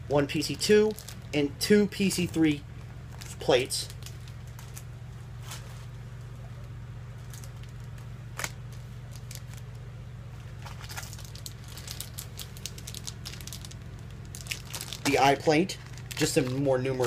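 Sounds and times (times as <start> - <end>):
steady low hum: 0.0 - 17.0
plastic bags crinkling: 0.4 - 1.4, 2.2 - 9.8, 10.4 - 17.0.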